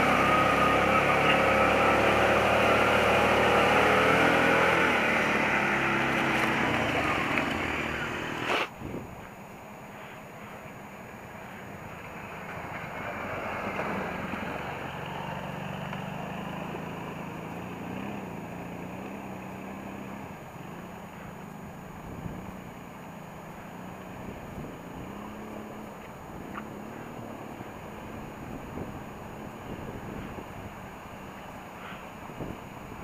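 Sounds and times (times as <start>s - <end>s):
atv engine running: 0.0s - 8.7s, 11.1s - 33.0s.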